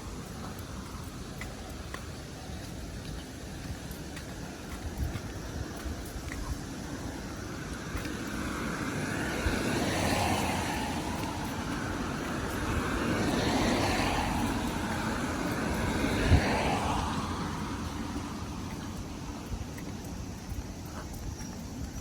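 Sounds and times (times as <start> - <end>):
strong wind gusts: 0.0 - 22.0
wind rumble on microphone: 0.0 - 22.0.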